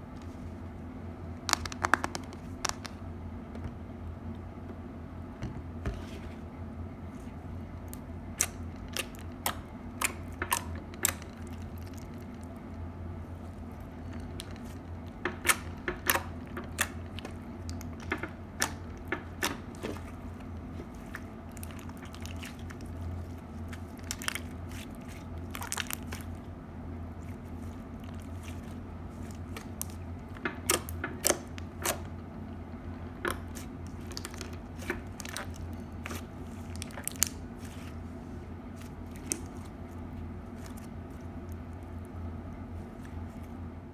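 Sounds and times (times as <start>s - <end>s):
crunchy slime crackling: 1.4s - 3.0s, 7.9s - 32.2s, 33.2s - 43.6s.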